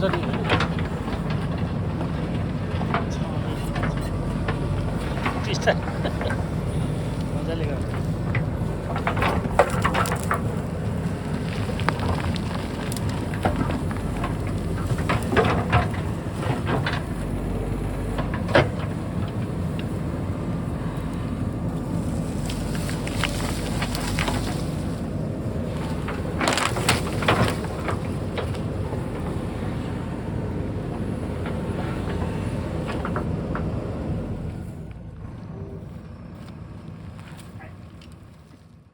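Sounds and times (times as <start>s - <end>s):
diesel engine running: 0.0s - 38.9s
soil and stones crunching: 0.0s - 38.9s.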